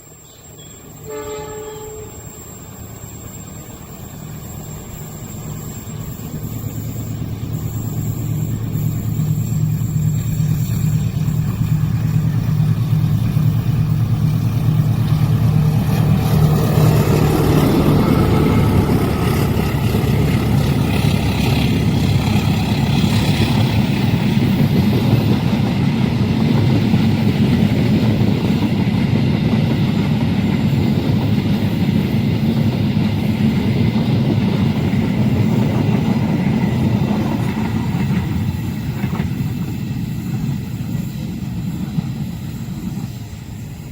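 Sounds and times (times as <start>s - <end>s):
diesel locomotive engine hum: 0.0s - 43.9s
train cars rumbling past: 0.0s - 43.9s.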